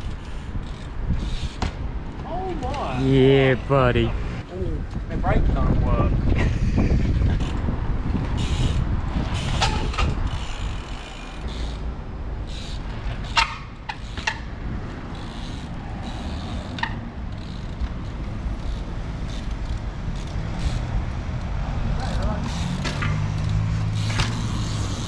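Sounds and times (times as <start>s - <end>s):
road traffic rumble: 0.0s - 25.0s
wind: 0.0s - 25.0s.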